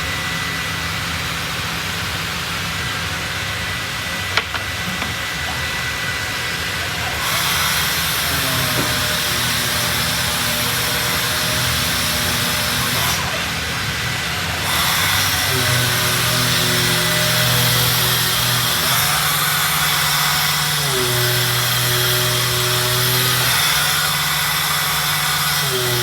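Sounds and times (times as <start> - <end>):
sanding machine humming: 0.0 - 26.0
sander hissing: 4.2 - 26.0.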